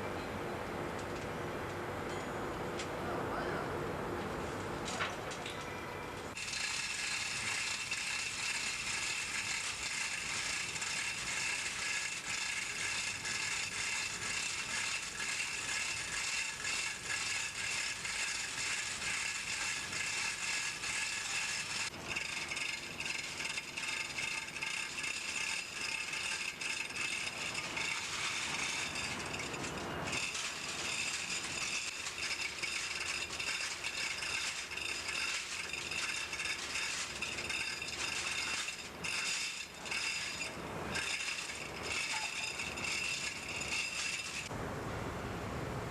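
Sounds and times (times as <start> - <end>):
steady machine tones: 5.7 - 44.5
engine room machinery rattling: 6.3 - 44.5.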